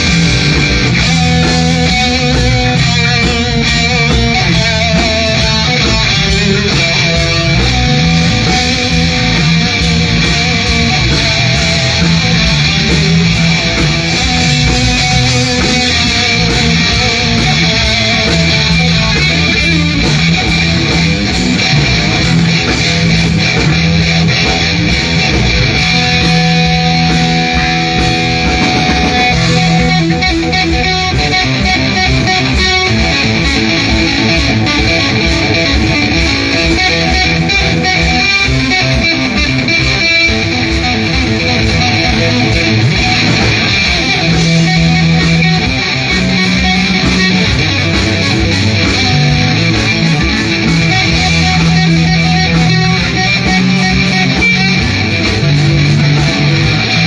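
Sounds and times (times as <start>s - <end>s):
electric guitar: 0.0s - 57.0s
instrumental band music: 0.0s - 57.0s.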